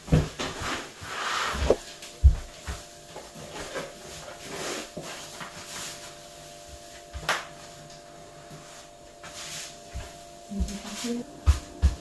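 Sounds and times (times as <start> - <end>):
rug rustling and rubbing on floor: 0.1 - 7.0, 8.5 - 11.8.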